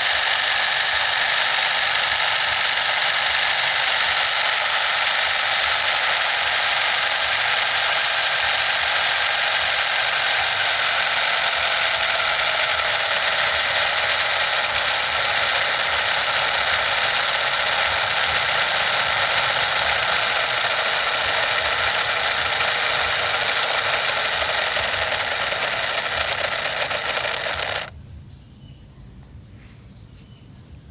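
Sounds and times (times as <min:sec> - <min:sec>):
small motor whirring and rattling: 0:00.0 - 0:27.9.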